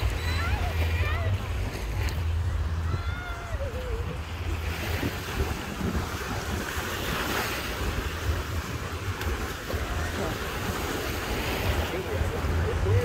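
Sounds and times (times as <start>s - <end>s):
small waves breaking on shore: 0.0s - 13.0s
wind buffeting microphone: 0.0s - 13.0s.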